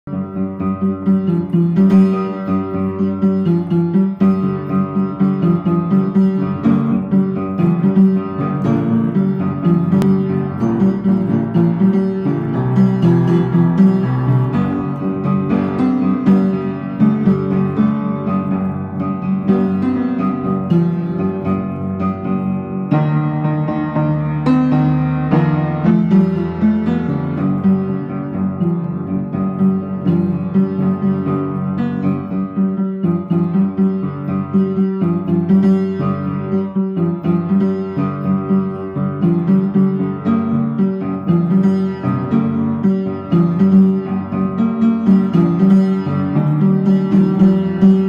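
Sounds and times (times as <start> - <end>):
upright piano playing: 0.1 - 48.0.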